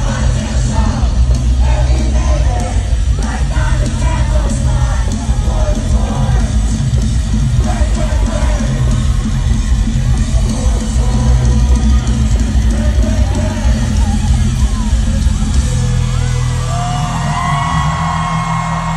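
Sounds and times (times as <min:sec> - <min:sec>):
live rock band music: 0:00.0 - 0:18.9.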